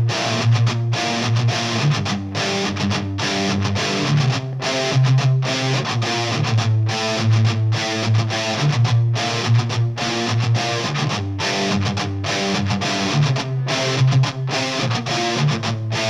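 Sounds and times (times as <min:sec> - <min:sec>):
rock music with electric guitar: 0:00.0 - 0:16.0.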